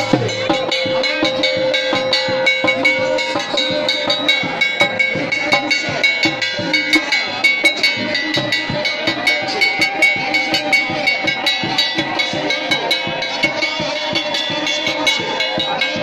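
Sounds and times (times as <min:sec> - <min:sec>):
drums fast beat: 0:00.0 - 0:16.0.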